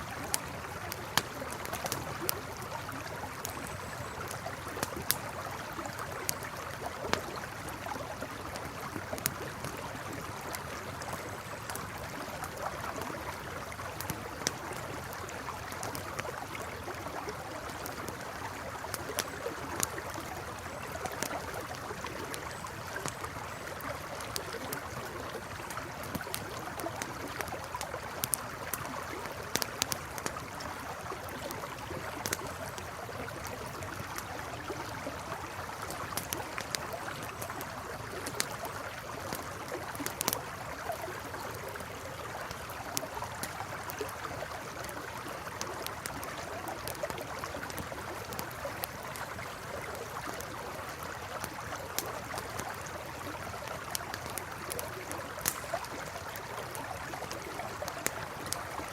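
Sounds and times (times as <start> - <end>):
campfire crackling: 0.0 - 58.9
river flowing: 0.0 - 58.9.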